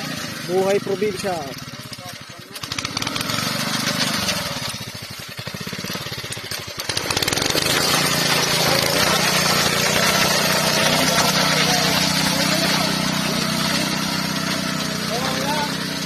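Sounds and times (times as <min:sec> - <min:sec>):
machine cutting rice: 0:00.0 - 0:16.0
small engine running: 0:00.0 - 0:16.0.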